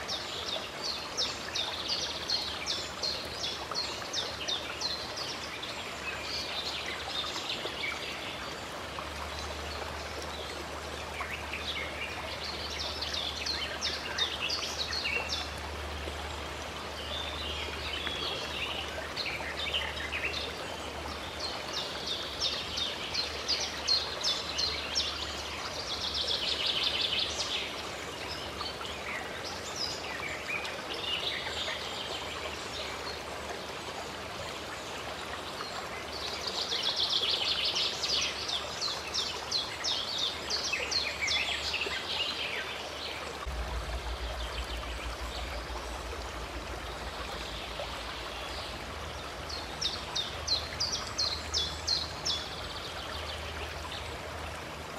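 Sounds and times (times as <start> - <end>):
songbirds chirping: 0.0 - 54.9
stream water rushing: 0.0 - 54.9.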